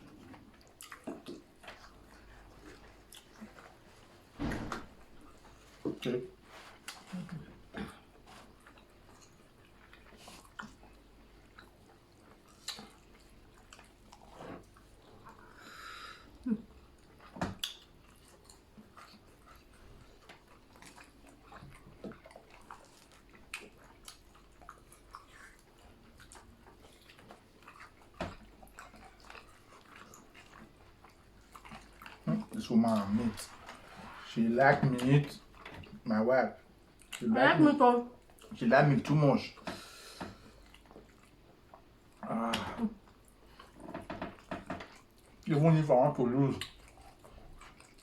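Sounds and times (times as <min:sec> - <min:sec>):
chewing and biting chicken: 0:00.0 - 0:04.3, 0:05.2 - 0:15.6, 0:16.6 - 0:34.4, 0:38.2 - 0:48.0.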